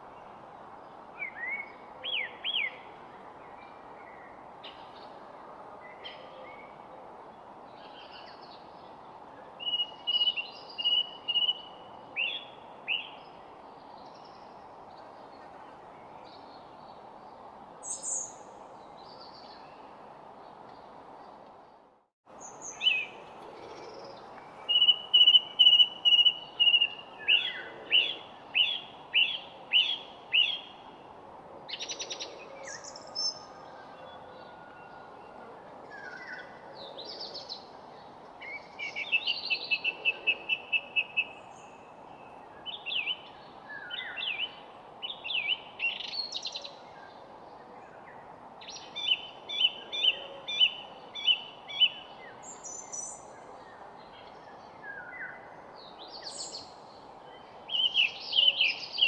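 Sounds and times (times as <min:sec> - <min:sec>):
faint background hiss: 0:00.0 - 0:59.0
songbirds singing and chirping: 0:00.1 - 0:05.2, 0:05.8 - 0:31.1, 0:31.7 - 0:59.0.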